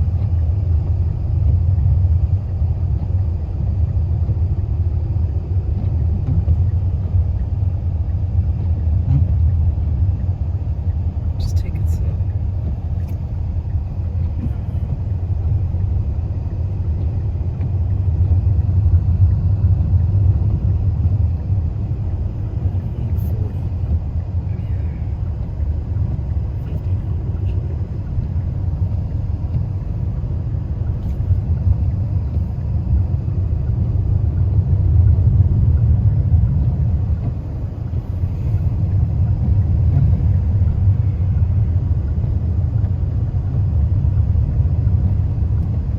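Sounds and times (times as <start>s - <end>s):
car driving on highway: 0.0s - 45.9s.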